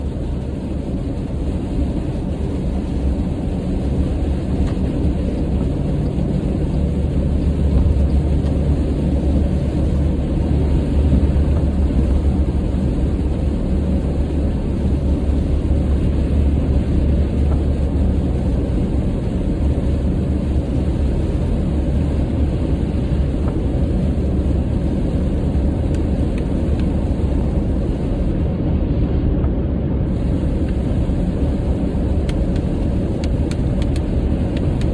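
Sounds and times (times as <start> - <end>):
car road and engine noise: 0.0 - 34.9.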